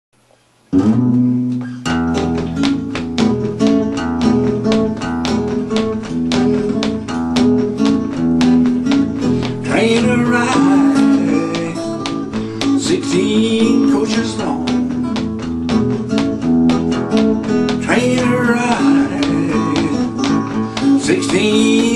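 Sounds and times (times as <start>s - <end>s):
acoustic guitar strumming blues rhythm: 0.7s - 21.9s.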